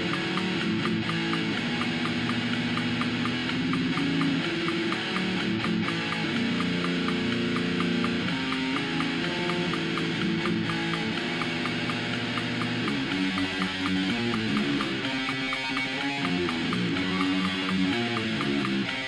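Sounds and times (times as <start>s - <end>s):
distorted electric guitar: 0.0s - 19.0s
steady ticking: 0.0s - 19.0s.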